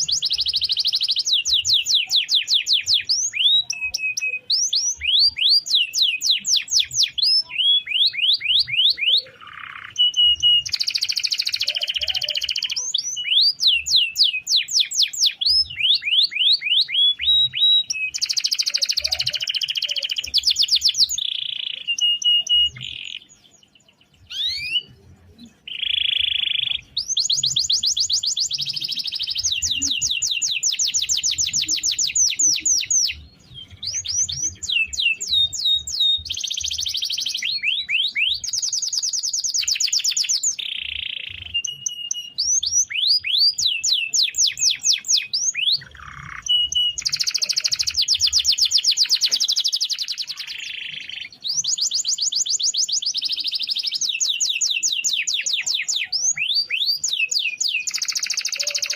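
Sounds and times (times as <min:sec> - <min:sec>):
canary singing: 0:00.0 - 0:58.9.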